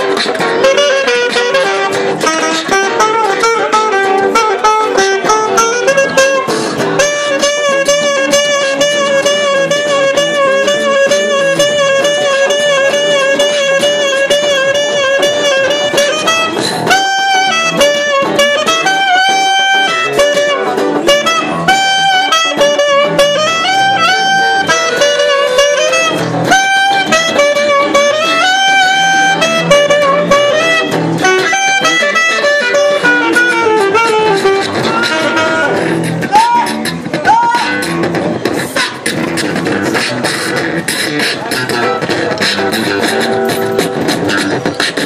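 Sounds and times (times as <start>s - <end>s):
beatbox percussion clicking: 0.0s - 45.0s
electric guitar: 0.0s - 45.0s
saxophone melody: 0.0s - 45.0s.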